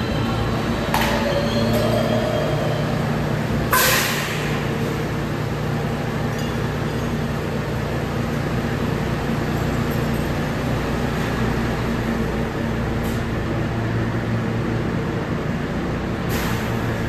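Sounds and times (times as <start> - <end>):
subway train low hum: 0.0 - 17.0.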